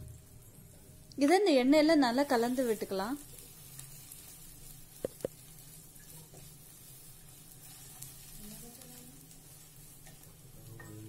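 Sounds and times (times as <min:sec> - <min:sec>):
faint sizzle of paste frying: 0:00.0 - 0:11.0.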